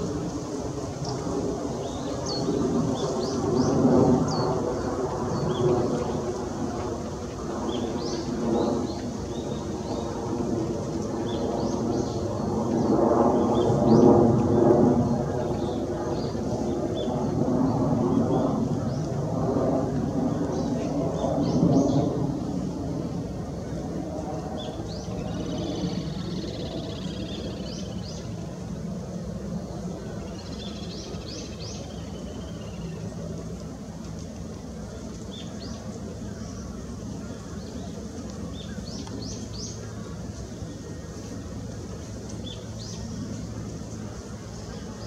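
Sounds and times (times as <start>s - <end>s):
distant traffic rumble: 0.0s - 45.0s
small birds trilling and chirping: 0.0s - 45.0s.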